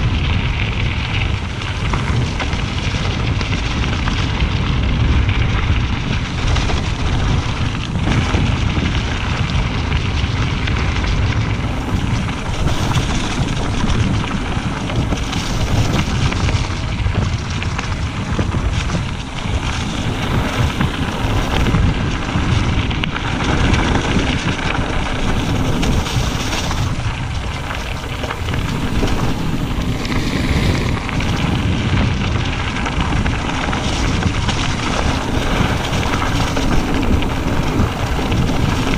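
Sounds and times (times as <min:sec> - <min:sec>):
bike tyres rolling over gravel: 0:00.0 - 0:38.9
wind on microphone: 0:00.0 - 0:38.9.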